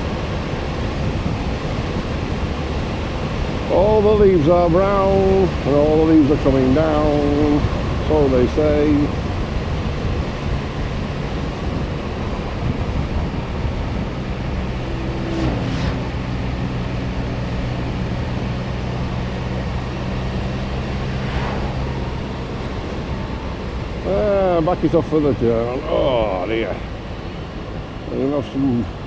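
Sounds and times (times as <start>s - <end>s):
vehicle engine cruising: 0.0s - 29.0s
wind and road rush: 0.0s - 29.0s.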